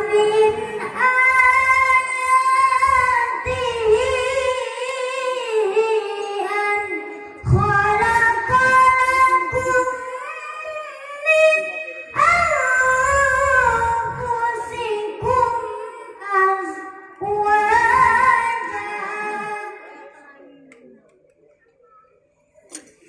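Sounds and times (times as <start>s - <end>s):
boy chanting through a microphone: 0.0s - 22.2s.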